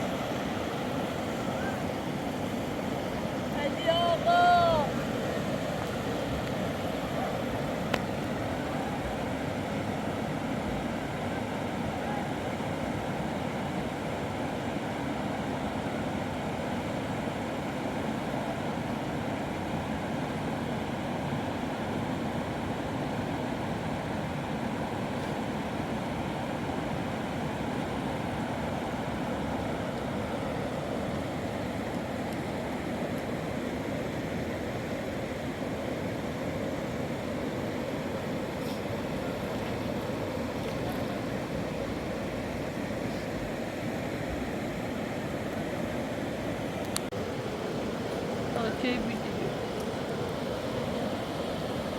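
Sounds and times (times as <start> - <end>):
river water rushing: 0.0 - 51.9.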